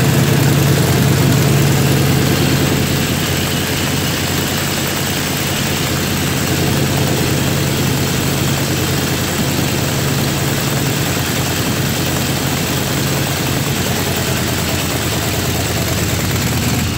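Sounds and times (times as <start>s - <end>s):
aircraft engine idling: 0.0s - 16.9s.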